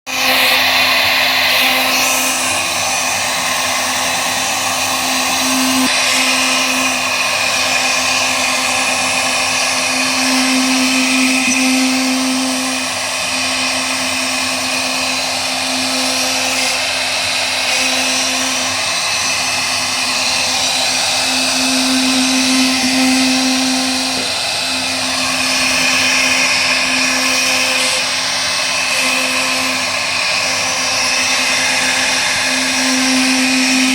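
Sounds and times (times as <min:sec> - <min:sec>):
wood router spindle whine: 0:00.0 - 0:33.9
router cutting hiss: 0:00.1 - 0:33.9.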